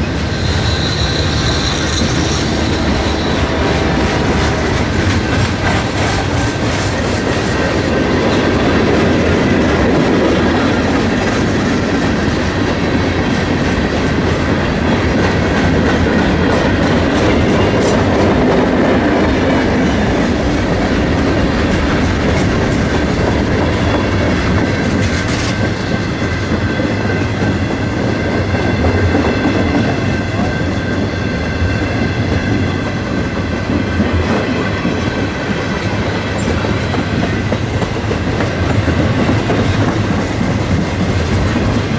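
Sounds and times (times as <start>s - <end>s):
clickety-clack over rail joints: 0.0s - 41.9s
train wheels rumbling on rail: 0.0s - 41.9s.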